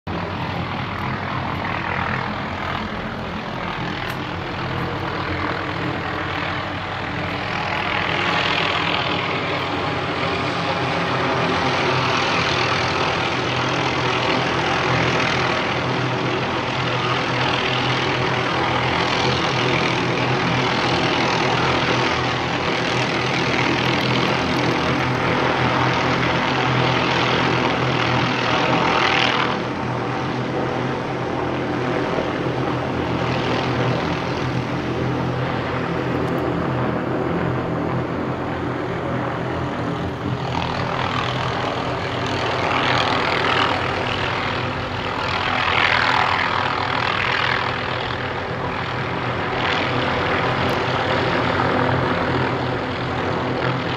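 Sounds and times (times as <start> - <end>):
helicopter rotor and engine: 0.0 - 53.9.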